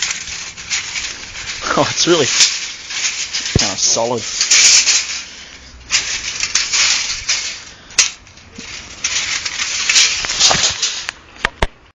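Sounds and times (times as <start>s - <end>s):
tape measure blade crinkling: 0.0s - 11.7s.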